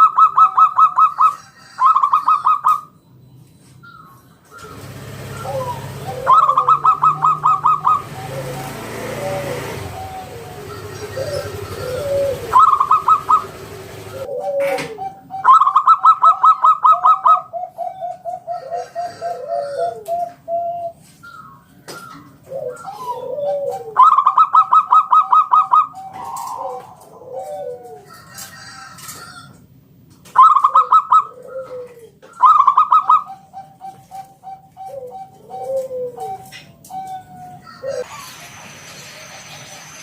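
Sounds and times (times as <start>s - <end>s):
dove cooing: 0.0s - 2.9s, 3.8s - 29.6s, 30.3s - 38.4s.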